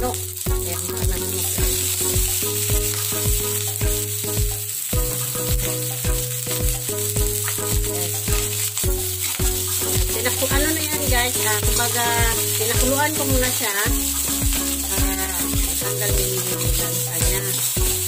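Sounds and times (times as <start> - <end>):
electronic music with kick drum: 0.0 - 18.0
food sizzling in hot oil: 0.0 - 18.0
spatula stirring in a wok: 0.4 - 18.0.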